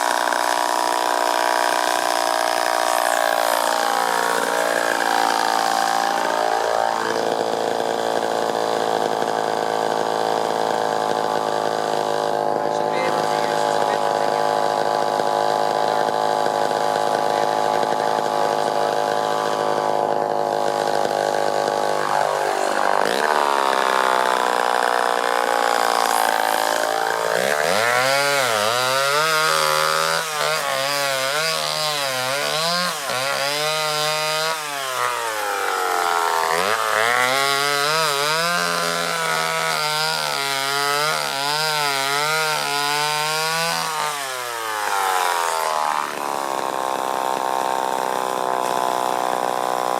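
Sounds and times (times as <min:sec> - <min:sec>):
chainsaw cutting log: 0:00.0 - 0:49.9
chainsaw running: 0:00.0 - 0:49.9.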